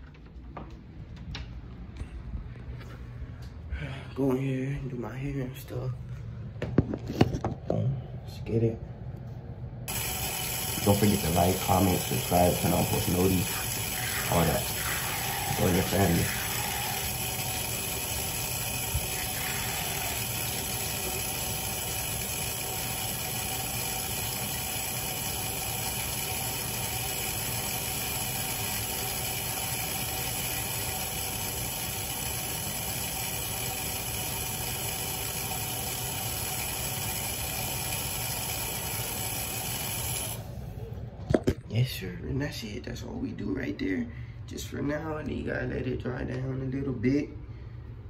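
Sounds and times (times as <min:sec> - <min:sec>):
exhaust fan whirring: 0:00.0 - 0:48.0.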